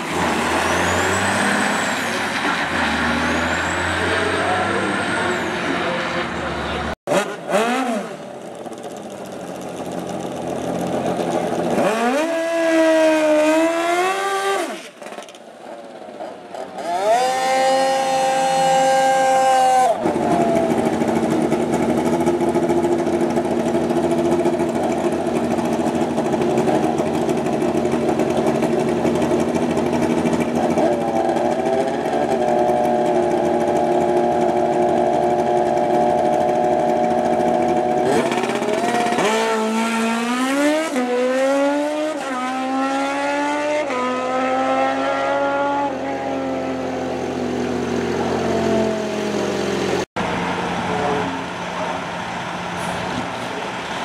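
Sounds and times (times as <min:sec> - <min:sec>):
snowmobile and motorcycle engines revving: 0:00.0 - 0:50.1.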